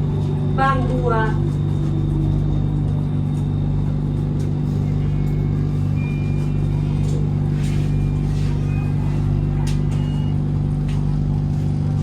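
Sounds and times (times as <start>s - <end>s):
train car humming: 0.0s - 12.0s.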